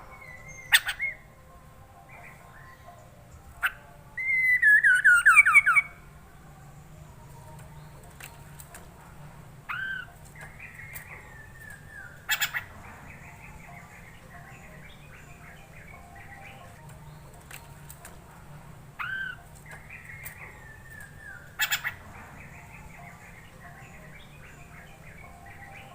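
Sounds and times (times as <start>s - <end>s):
bird song with whistles and rattles: 0.0s - 1.3s, 2.0s - 6.0s, 6.7s - 25.9s.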